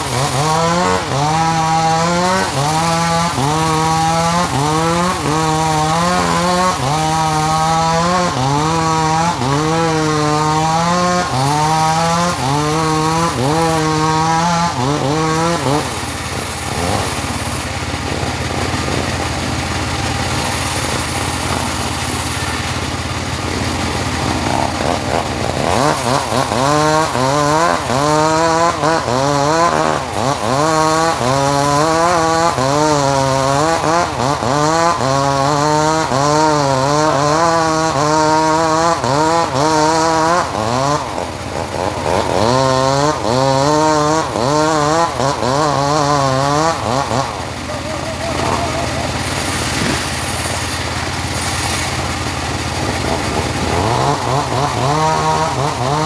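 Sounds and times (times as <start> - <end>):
bandsaw mill engine: 0.0 - 56.0
sawing wood: 0.0 - 56.0.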